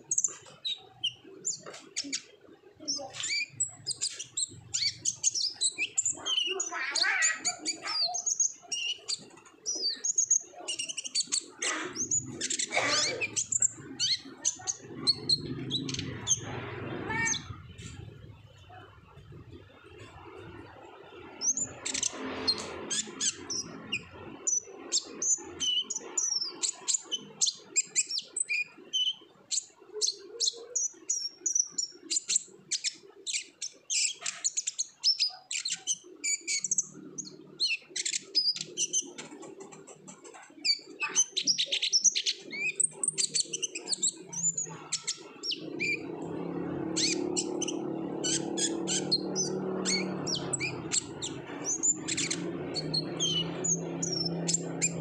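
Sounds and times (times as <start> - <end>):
bird singing high chirps and trills: 0.0 - 55.0.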